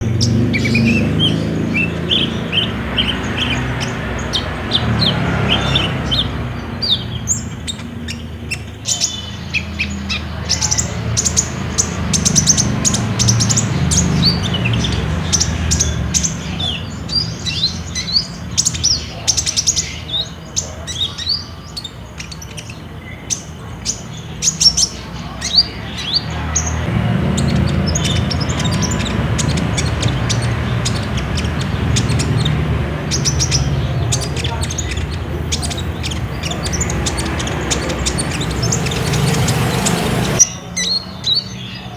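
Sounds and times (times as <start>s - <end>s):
bird chirping and trilling: 0.0s - 41.9s.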